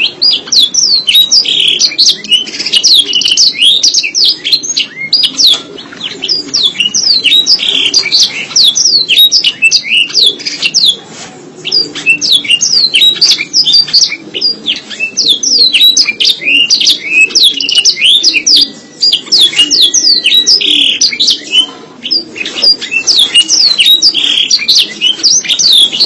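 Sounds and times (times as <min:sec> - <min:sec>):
canary singing chirps and trills: 0:00.0 - 0:26.0.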